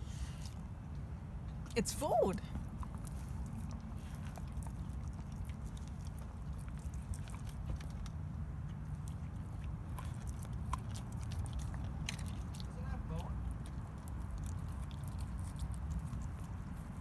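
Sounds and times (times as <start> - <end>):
dog licking and mouthing ribs: 0.4 - 17.0.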